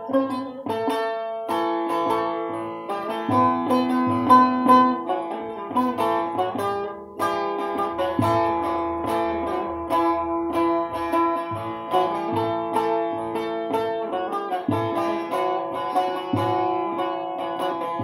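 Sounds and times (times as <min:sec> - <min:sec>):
long-necked lute picked melody: 0:00.0 - 0:18.0.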